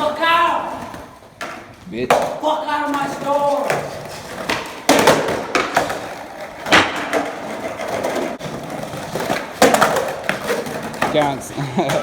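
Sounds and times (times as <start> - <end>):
skateboard rolling on pavement: 0.0 - 12.0
skateboard clacking on ground: 0.6 - 12.0.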